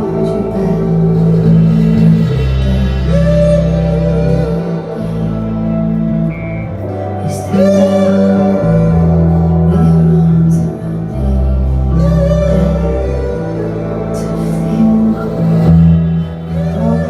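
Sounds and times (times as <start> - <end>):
live rock band playing: 0.0 - 17.0
woman singing lead vocal: 0.0 - 17.0.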